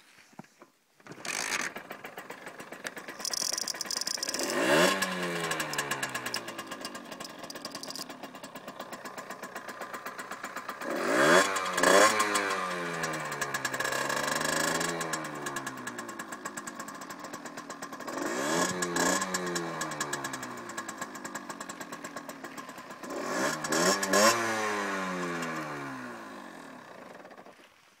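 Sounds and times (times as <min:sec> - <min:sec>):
motorcycle engine revving and idling: 0:01.1 - 0:27.6.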